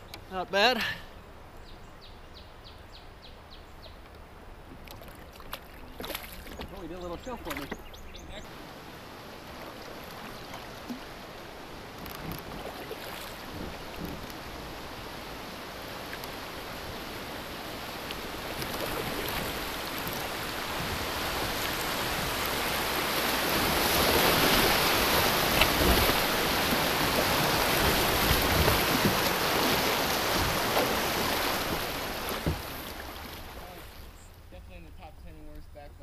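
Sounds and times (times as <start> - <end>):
water rushing over rocks: 5.0 - 34.0.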